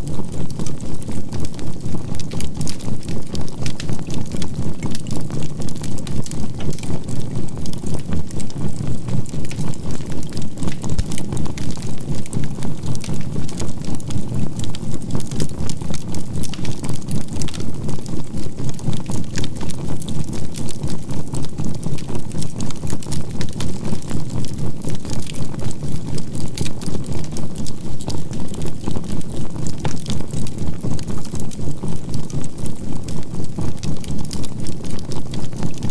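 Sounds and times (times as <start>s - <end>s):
charcoal crackling in campfire: 0.0s - 35.9s.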